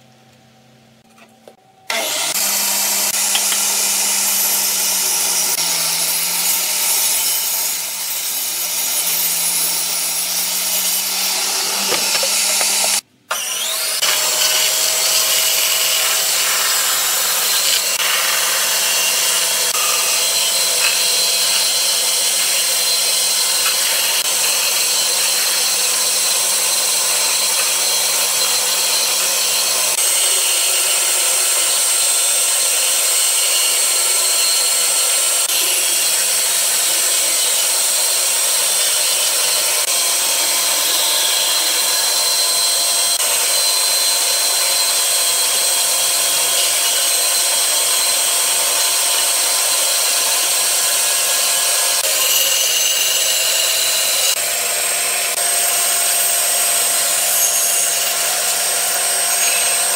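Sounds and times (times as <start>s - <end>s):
bandsaw cutting wood: 1.9s - 59.9s.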